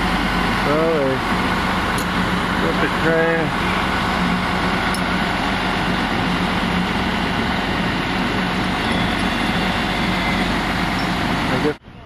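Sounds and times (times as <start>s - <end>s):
heavy engine running: 0.0s - 12.0s.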